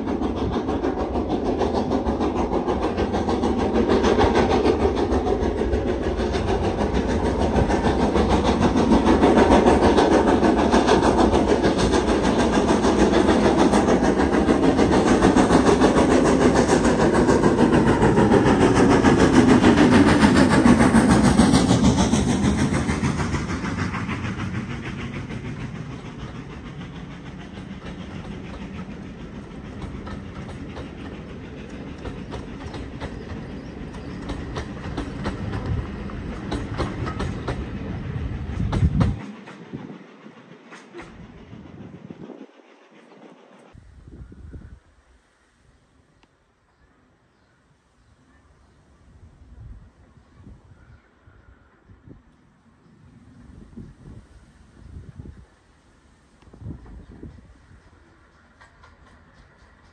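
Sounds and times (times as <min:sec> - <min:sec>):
train passing with wheel clatter: 0:00.0 - 0:59.9.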